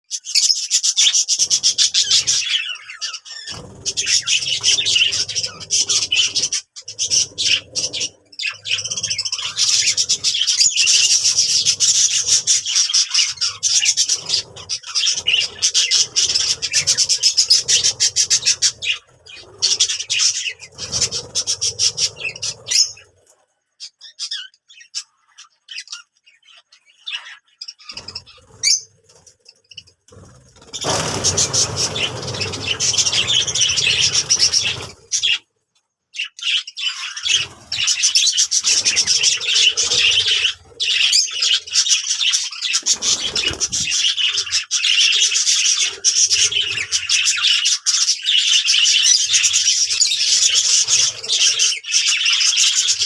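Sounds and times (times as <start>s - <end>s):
budgerigars chirping and squawking: 0.0s - 35.5s, 36.1s - 53.0s.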